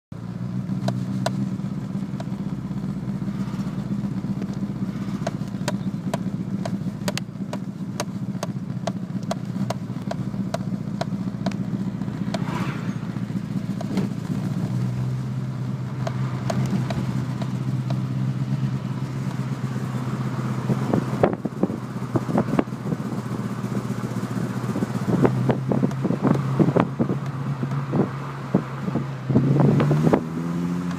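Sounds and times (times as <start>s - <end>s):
engine idling with misfire: 0.2s - 27.9s.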